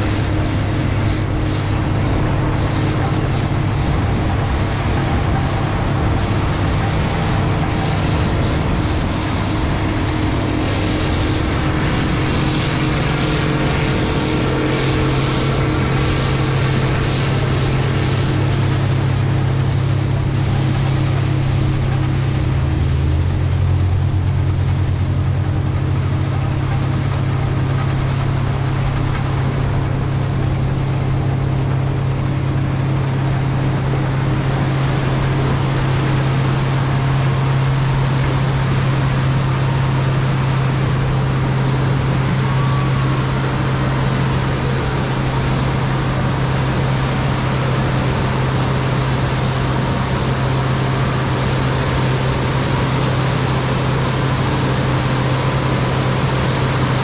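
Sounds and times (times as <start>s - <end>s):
machinery humming: 0.0s - 57.0s.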